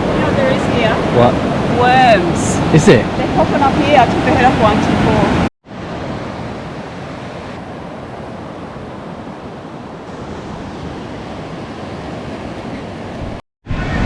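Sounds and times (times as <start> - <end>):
surf breaking on a beach: 0.0 - 14.0.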